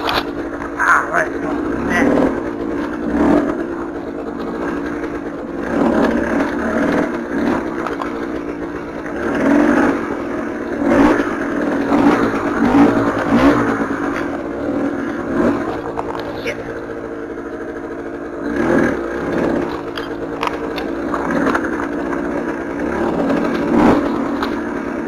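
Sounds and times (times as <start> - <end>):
knocks and clatter from bike: 0.0 - 25.0
motorcycle engine revving: 0.0 - 25.0.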